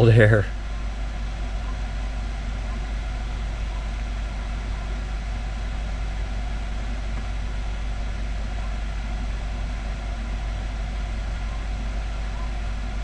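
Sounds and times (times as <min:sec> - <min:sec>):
heating blower humming: 0:00.0 - 0:13.0.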